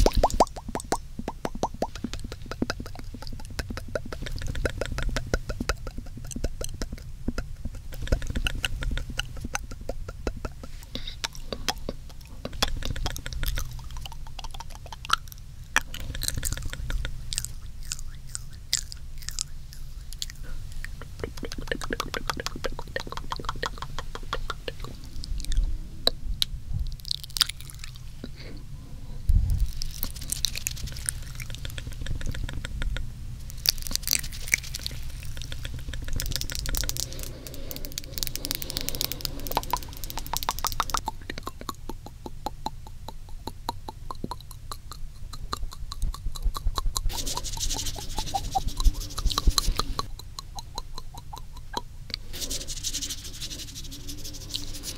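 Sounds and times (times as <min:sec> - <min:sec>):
wet tongue and lip clicks: 0:00.0 - 0:28.5, 0:29.4 - 0:54.9.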